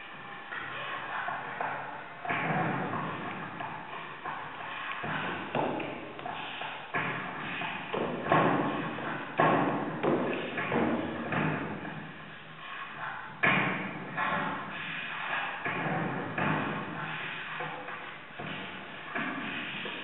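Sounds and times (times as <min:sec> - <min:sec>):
heavy footsteps on hard floor: 0:01.4 - 0:20.0.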